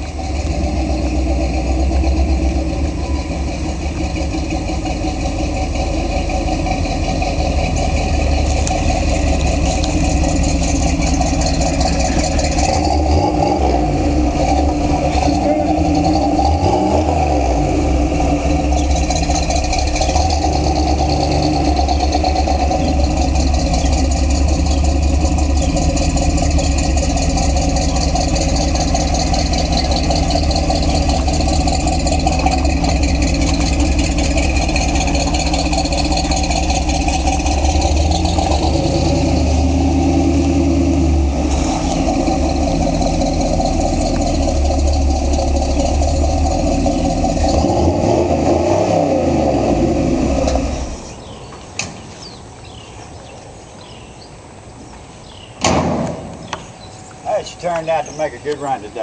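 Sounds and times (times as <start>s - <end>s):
truck engine running: 0.0s - 53.2s.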